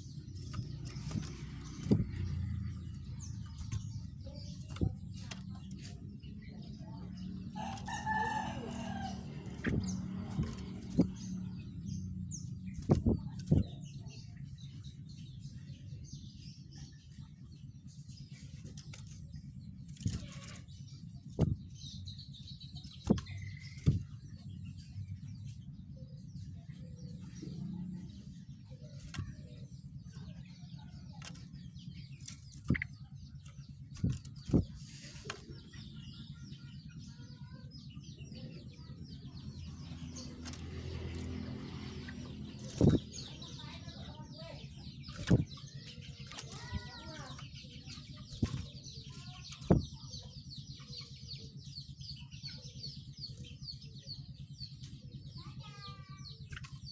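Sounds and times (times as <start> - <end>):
songbird chirps and trills: 0.0 - 56.9
steady low hum: 0.0 - 56.9.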